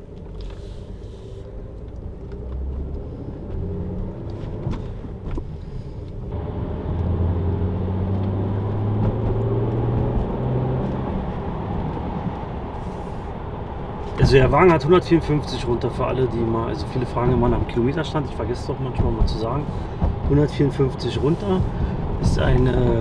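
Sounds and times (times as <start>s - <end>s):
car engine accelerating: 0.0s - 23.0s
road noise: 0.0s - 23.0s.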